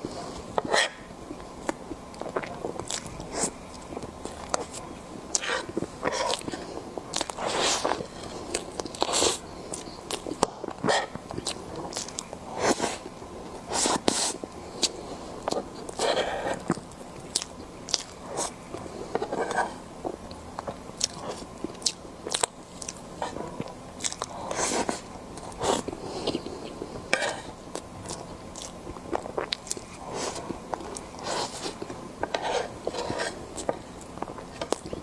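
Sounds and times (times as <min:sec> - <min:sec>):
person chewing meat: 0:00.0 - 0:35.0.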